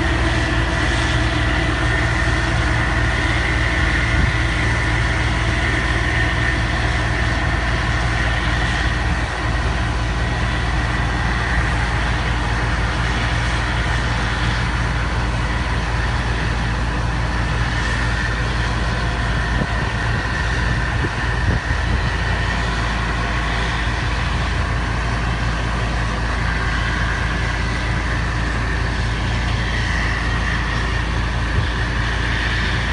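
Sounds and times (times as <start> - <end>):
combine harvester running: 0.0 - 32.9
constant high whine: 0.0 - 32.9
tractor engine: 0.0 - 32.9.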